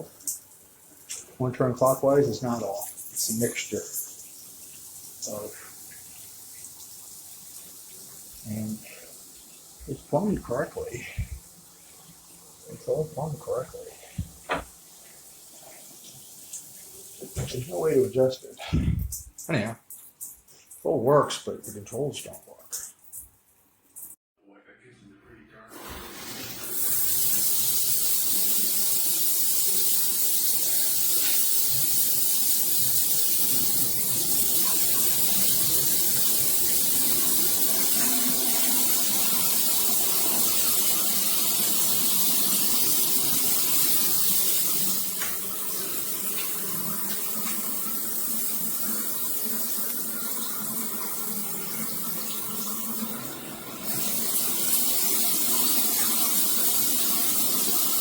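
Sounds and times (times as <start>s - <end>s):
shower water spraying: 0.0s - 24.2s, 25.8s - 58.0s.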